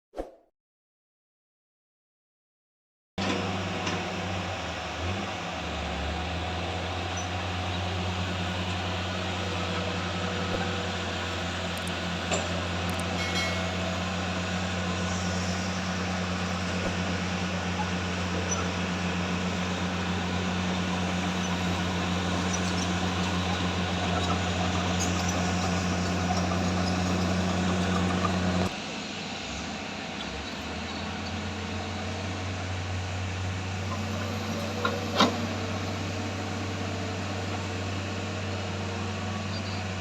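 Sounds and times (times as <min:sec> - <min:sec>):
diesel engine humming: 0:03.2 - 0:40.0.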